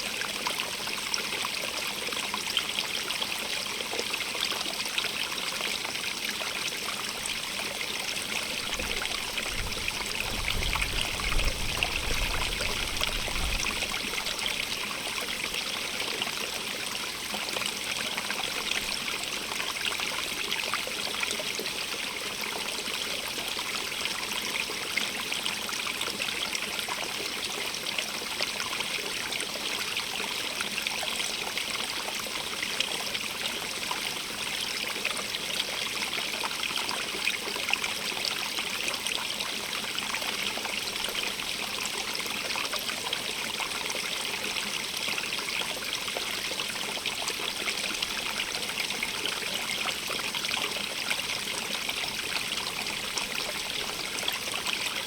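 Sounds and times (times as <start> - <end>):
stream water rushing and trickling: 0.0 - 55.0.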